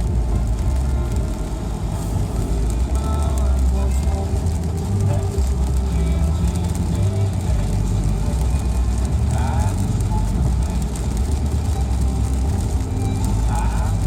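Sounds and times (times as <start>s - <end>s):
car engine and road rumble: 0.0s - 14.0s
rain hiss: 0.0s - 14.0s.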